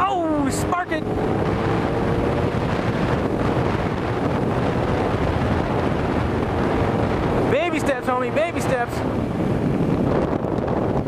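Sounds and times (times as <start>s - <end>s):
motorcycle engine running: 0.0s - 11.0s
wind rush on microphone: 0.0s - 11.0s.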